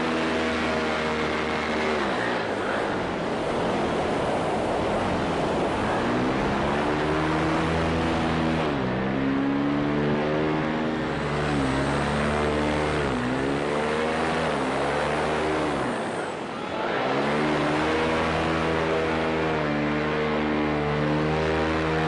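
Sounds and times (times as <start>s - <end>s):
paramotor engine running: 0.0s - 22.0s.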